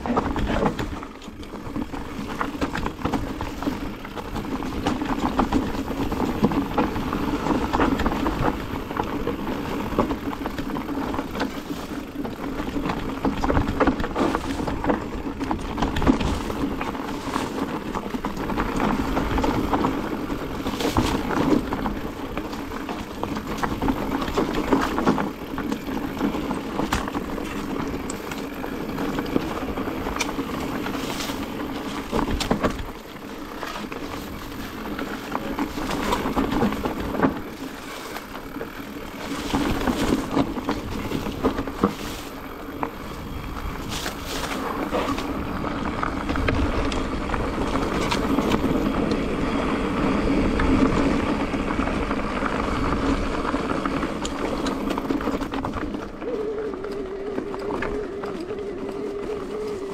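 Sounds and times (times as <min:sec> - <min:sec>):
bike rattling over bumps: 0:00.0 - 0:59.9
bike tyres rushing on dirt: 0:00.0 - 0:59.9.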